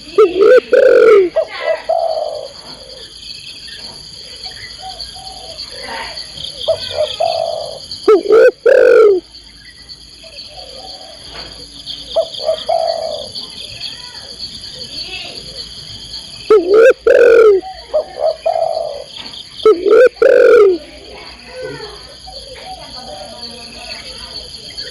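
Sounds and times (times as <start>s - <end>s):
doves cooing: 0.0s - 3.2s, 4.1s - 9.3s, 10.3s - 13.9s, 14.7s - 24.9s
insect trilling: 0.0s - 24.9s.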